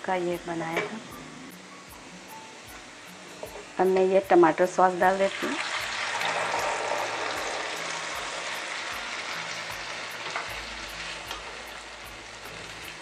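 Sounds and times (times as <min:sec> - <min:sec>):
tomato puree sizzling in hot oil: 0:02.0 - 0:13.0.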